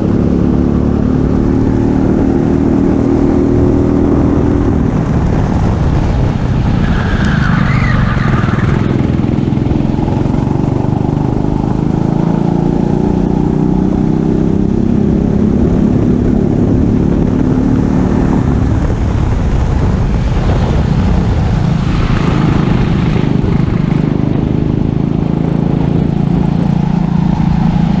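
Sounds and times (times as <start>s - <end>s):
wind rushing: 0.0s - 12.7s, 14.5s - 28.0s
go-kart engine running: 0.0s - 28.0s.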